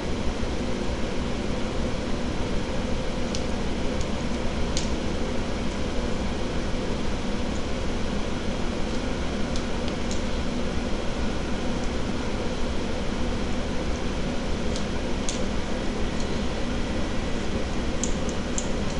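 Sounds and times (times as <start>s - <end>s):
steady mechanical hum: 0.0s - 18.9s.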